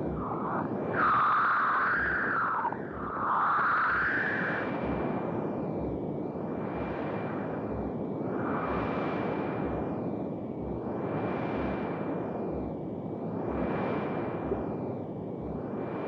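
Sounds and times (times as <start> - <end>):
sweeping electronic hiss: 0.0 - 16.0.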